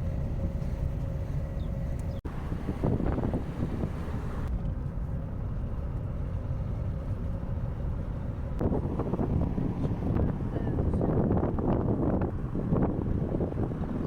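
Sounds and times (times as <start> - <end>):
vehicle motor rumble: 0.0 - 14.0
wind buffeting microphone: 0.0 - 14.0.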